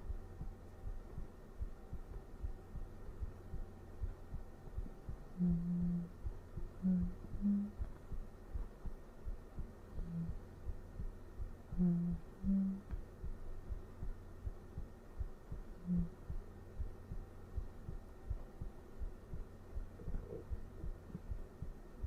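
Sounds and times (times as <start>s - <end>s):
heartbeat thumping: 0.0s - 22.0s
soft humming: 0.0s - 22.0s.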